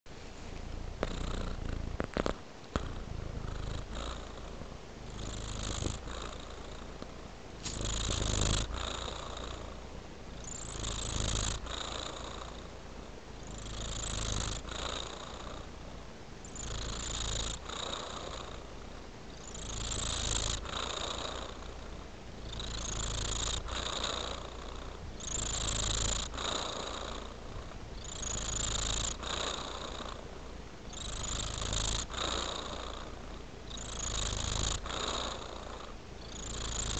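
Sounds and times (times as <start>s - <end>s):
cat purring: 0.2s - 36.9s.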